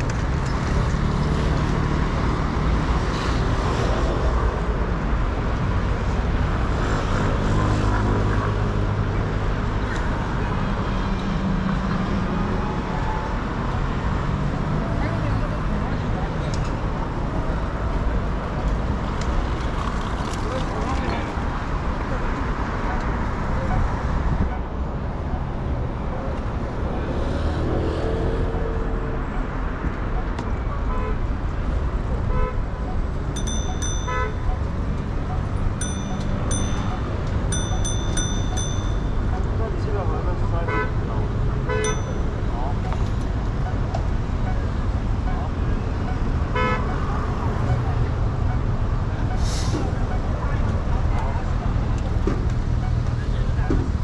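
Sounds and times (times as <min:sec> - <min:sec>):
car engines and tyre noise: 0:00.0 - 0:54.0
passing vehicles rumble: 0:00.0 - 0:54.0.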